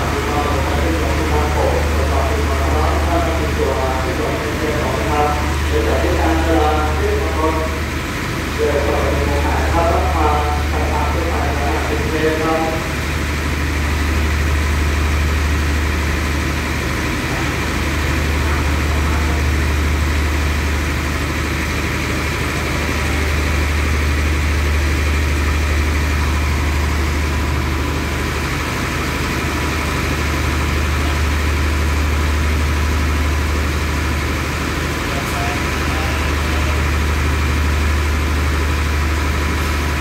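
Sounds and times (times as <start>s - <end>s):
diesel train engine idling: 0.0s - 40.0s.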